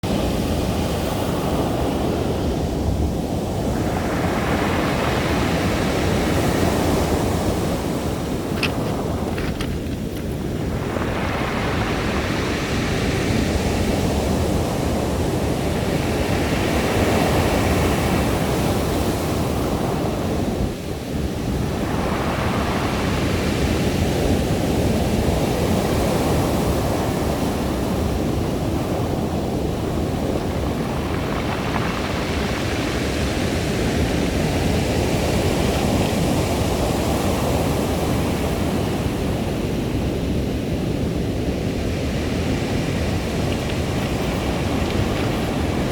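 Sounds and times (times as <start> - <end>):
waves washing over pebbles: 0.2 - 45.9.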